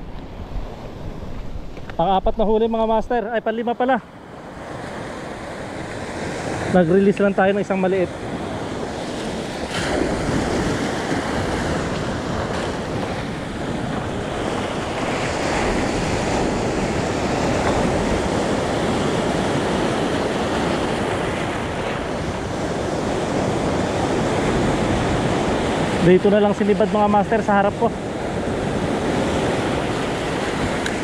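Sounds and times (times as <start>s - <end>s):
surf washing over stones: 4.6s - 31.0s.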